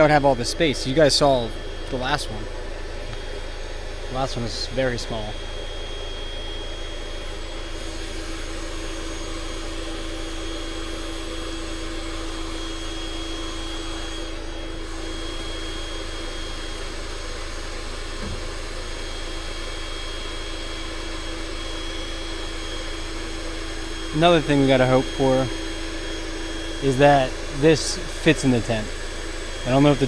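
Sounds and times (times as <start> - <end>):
electric air pump running: 0.0 - 30.0.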